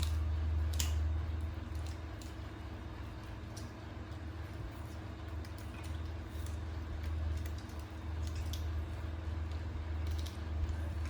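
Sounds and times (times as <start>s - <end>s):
small clicks and crunches: 0.0s - 11.0s
steady low hum: 0.0s - 11.0s.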